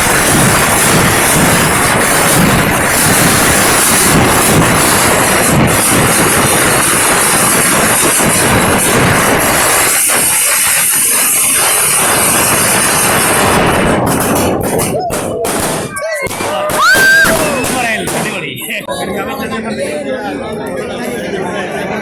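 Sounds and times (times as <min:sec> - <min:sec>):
low fireworks booms: 0:00.0 - 0:18.7
fireworks crackling bangs: 0:00.0 - 0:18.8
fireworks hissing rush: 0:00.0 - 0:18.8.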